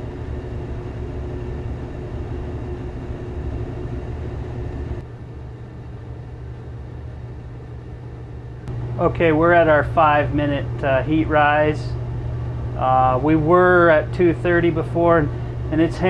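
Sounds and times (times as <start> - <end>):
faint hum: 0.0 - 16.0
furnace fan rumbling: 0.0 - 16.0.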